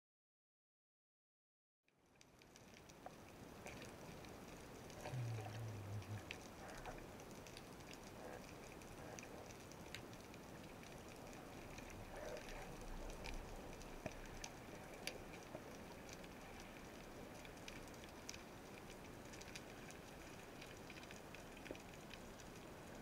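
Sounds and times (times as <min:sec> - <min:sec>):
underwater clicks and crackles: 0:02.0 - 0:23.0.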